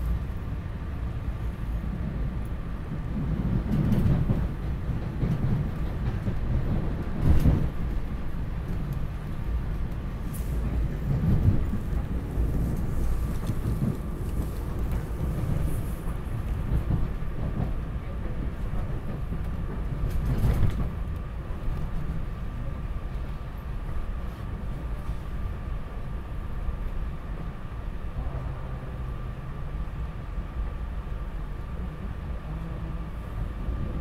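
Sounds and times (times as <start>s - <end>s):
train rumbling on track: 0.0s - 34.0s.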